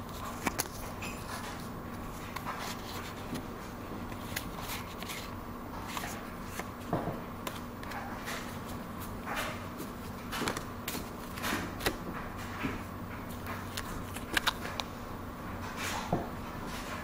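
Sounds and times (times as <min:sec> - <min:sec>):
cards rustling and clicking: 0:00.0 - 0:14.9
steady low hum: 0:00.0 - 0:17.0.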